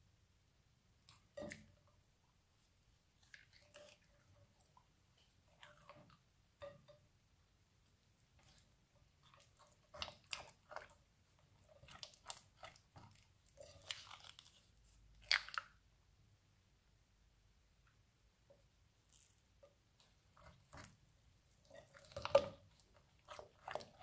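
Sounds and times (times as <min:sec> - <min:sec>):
spatula stirring sticky slime: 0:01.0 - 0:15.9, 0:18.4 - 0:24.0.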